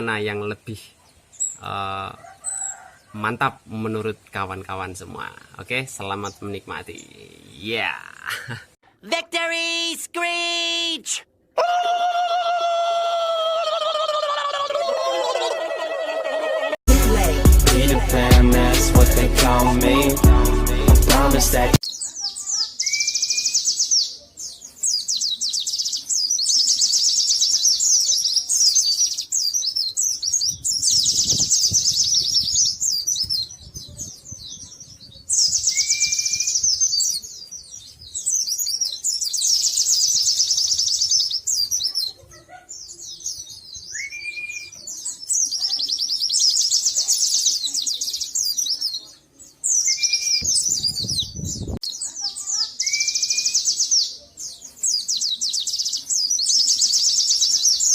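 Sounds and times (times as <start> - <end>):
songbirds trilling: 0.0 - 8.8, 11.8 - 16.4, 17.4 - 57.9.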